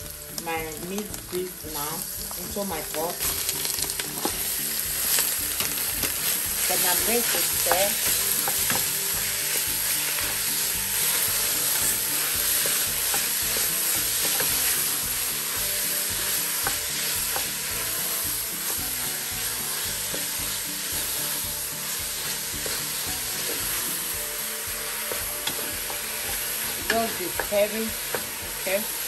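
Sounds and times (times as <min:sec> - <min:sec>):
meat sizzling in oil: 0:00.0 - 0:29.0.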